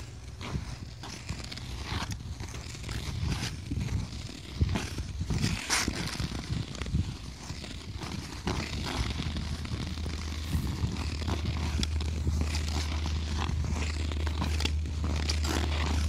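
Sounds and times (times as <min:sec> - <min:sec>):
ice skates scraping on ice: 0:00.0 - 0:16.0
steady low rumble: 0:00.0 - 0:16.0.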